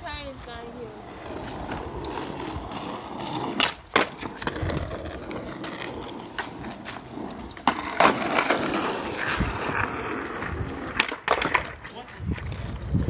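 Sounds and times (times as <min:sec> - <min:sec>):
skateboard wheels rolling on concrete: 0:00.0 - 0:13.0
skateboard clacks: 0:01.0 - 0:13.0.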